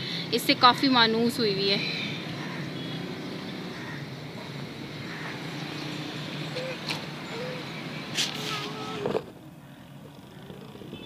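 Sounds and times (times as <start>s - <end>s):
distant traffic hum: 0.0s - 11.0s.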